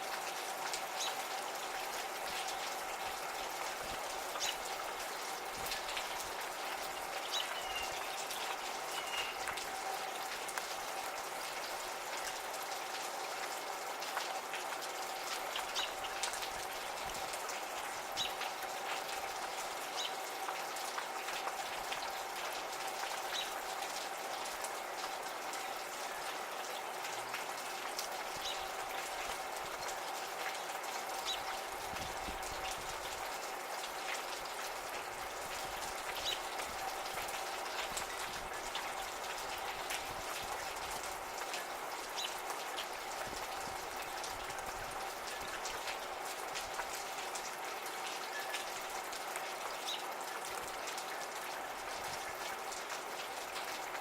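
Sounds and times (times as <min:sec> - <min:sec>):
drops ticking and dripping: 0:00.0 - 0:54.0
gentle rain: 0:00.0 - 0:54.0.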